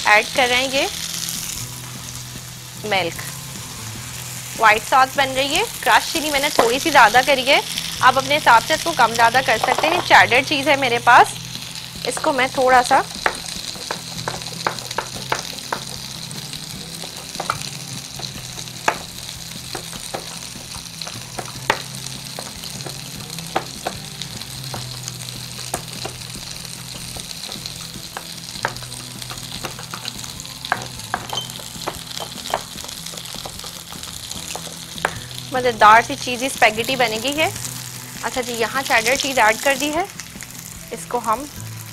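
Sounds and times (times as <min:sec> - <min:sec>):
sauce sizzling in a pan: 0:00.0 - 0:41.9.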